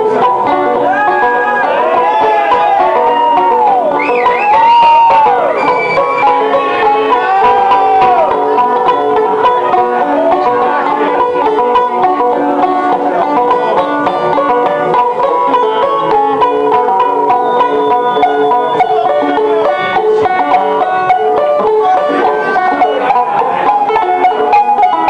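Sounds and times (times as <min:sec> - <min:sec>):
banjos playing country tune: 0:00.0 - 0:25.0.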